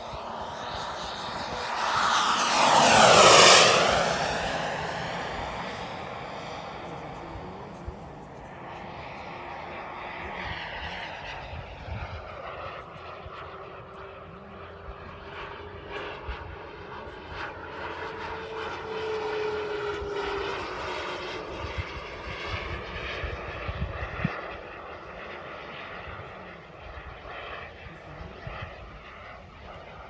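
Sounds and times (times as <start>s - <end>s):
model jet turbine roar and whine: 0.0s - 30.0s.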